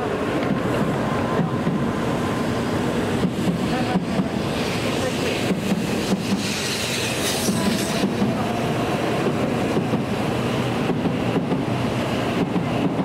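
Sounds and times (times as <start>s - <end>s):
train cars running past: 0.0s - 13.0s
train hiss: 0.0s - 13.0s.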